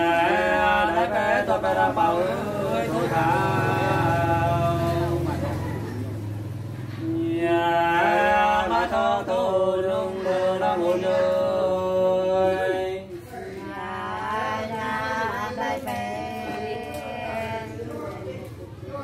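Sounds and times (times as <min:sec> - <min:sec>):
men singing unaccompanied folk song: 0:00.0 - 0:19.0.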